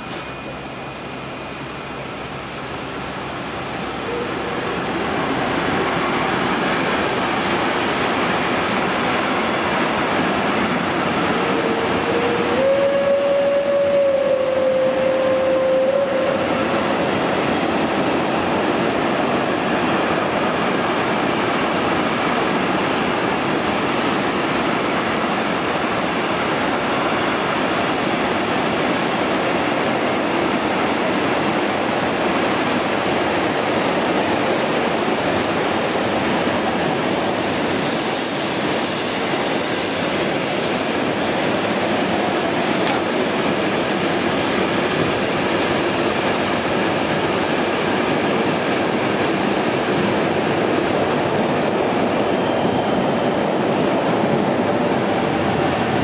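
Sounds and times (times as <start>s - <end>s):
train wheels rolling on track: 0.0s - 56.0s.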